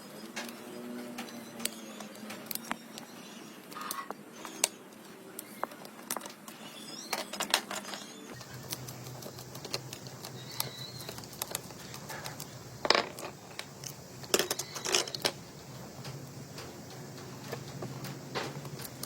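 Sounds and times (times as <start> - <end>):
small hard objects clicking: 0.1 - 19.0.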